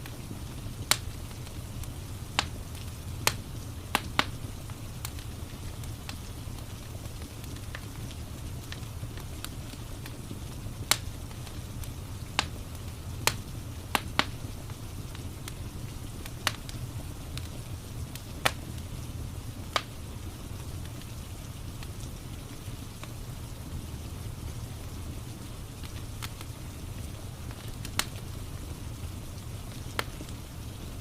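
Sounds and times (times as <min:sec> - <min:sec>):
rain hissing: 0:00.0 - 0:31.0
wood fire crackling: 0:00.0 - 0:31.0.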